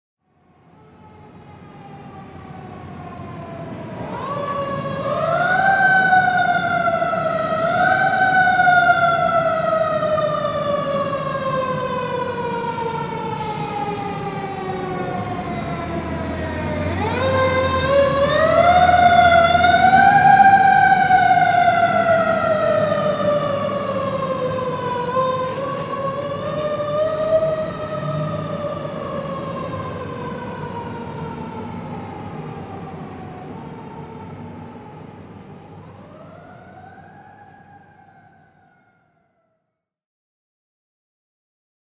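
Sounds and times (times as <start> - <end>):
fire truck siren wailing: 0.4 - 39.4.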